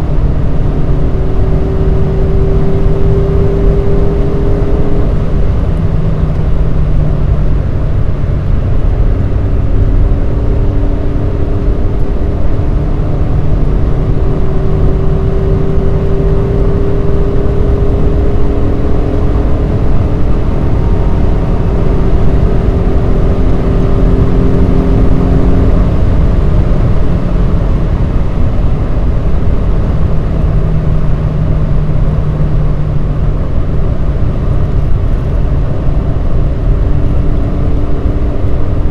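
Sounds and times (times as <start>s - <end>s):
car engine running: 0.0s - 38.9s
road noise rumble: 0.0s - 38.9s.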